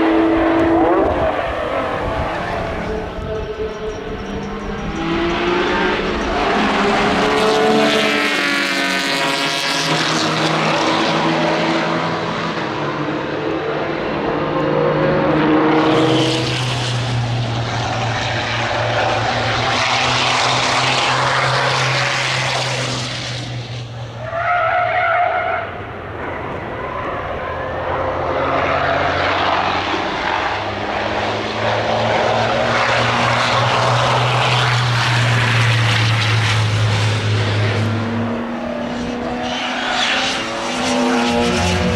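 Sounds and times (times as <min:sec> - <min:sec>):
racing car engines: 0:00.0 - 0:41.9.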